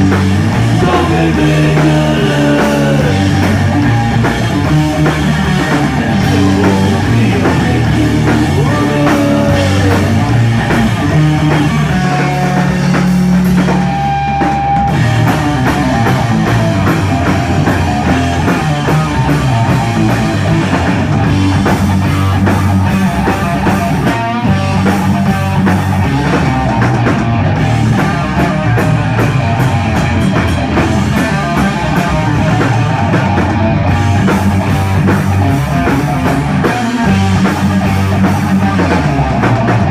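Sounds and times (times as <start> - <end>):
bass: 0.0 - 39.9
distorted electric guitar riffs: 0.0 - 39.9
drum kit: 0.0 - 39.9.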